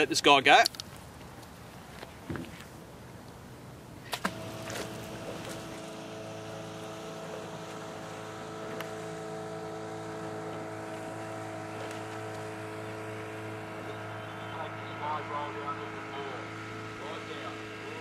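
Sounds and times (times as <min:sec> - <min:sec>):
engine running steadily: 0:00.7 - 0:18.0.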